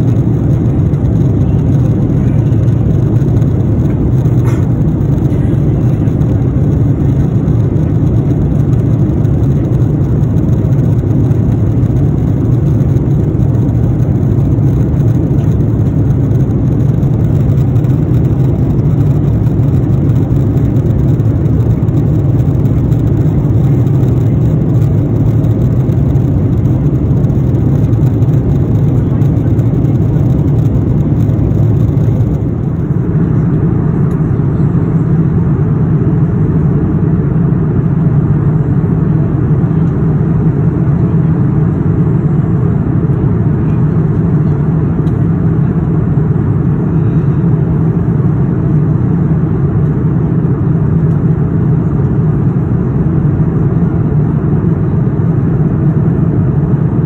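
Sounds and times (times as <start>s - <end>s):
jet engine and airflow drone: 0.0s - 57.0s.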